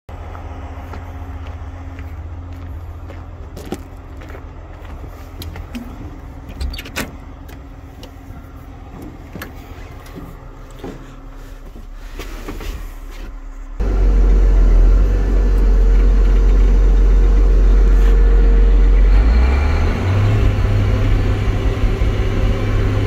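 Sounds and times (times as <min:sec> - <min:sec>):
tractor diesel engine idling: 0:00.1 - 0:23.0.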